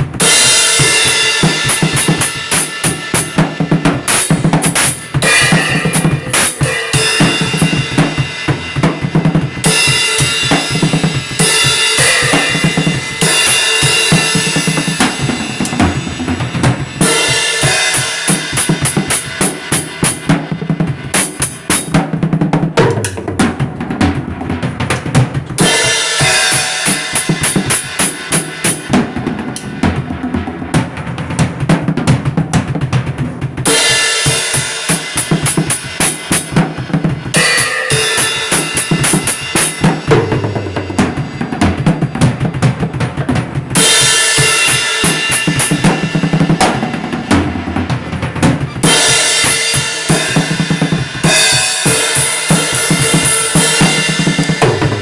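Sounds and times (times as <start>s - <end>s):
music with drum kit beat: 0.0s - 55.0s.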